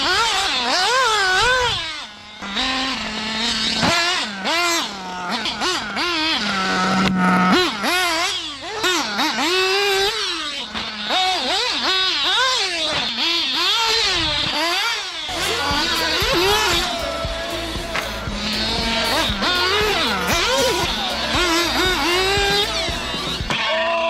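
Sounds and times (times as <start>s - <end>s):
nitro engine revving: 0.0s - 24.0s.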